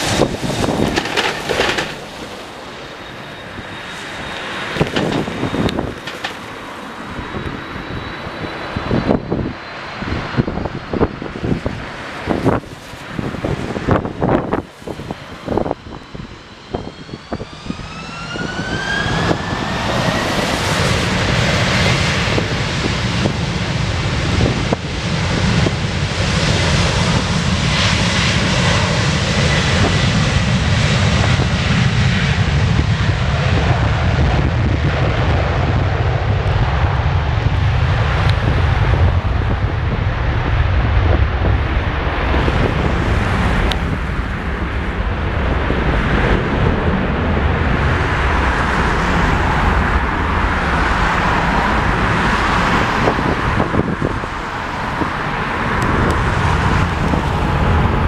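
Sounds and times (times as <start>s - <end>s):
jet engines spooling up: 0.0s - 58.0s
jet roar with low rumble: 0.0s - 58.0s.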